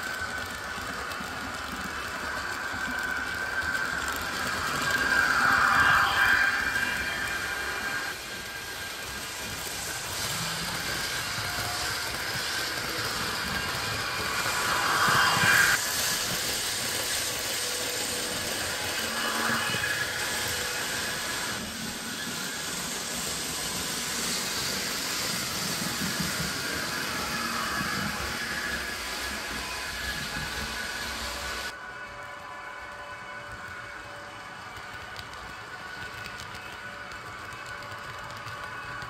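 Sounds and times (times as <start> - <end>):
model train running on track: 0.0 - 39.0.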